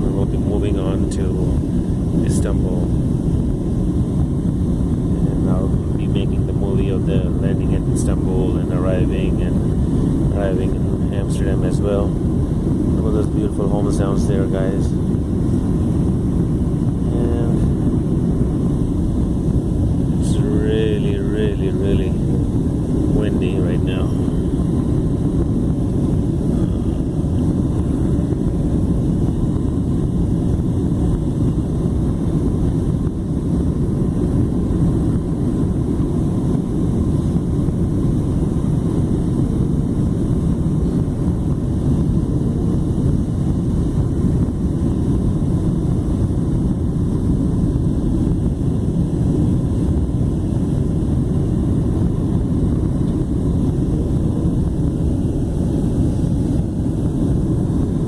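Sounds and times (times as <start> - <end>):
jet airliner cabin rumble: 0.0 - 58.0.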